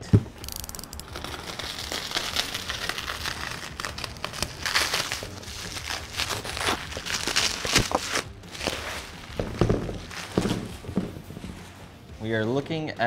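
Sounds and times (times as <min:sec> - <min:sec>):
bubble wrap crinkling: 0:00.3 - 0:12.2.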